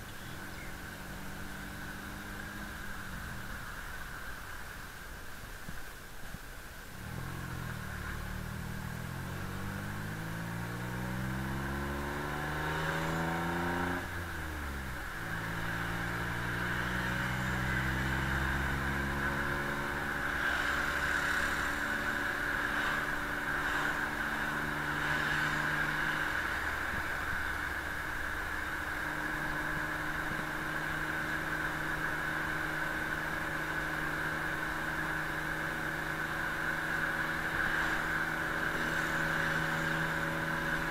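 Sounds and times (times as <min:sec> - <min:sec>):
vehicle engine revving: 0:00.1 - 0:03.8, 0:06.9 - 0:40.9.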